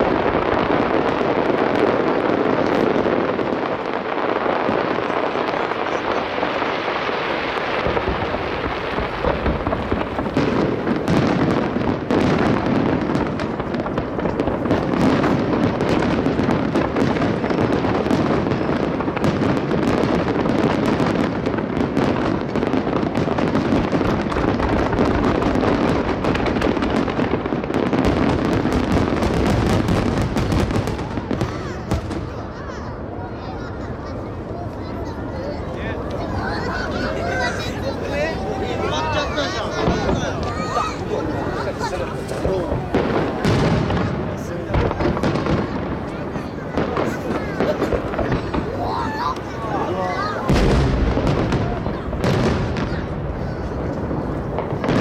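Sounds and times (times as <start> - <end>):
firework shell bursts and crackling: 0.0 - 33.0, 36.0 - 55.0.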